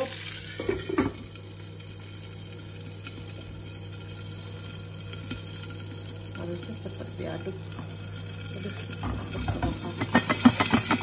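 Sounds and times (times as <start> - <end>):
vegetables sizzling in pot: 0.0 - 11.0.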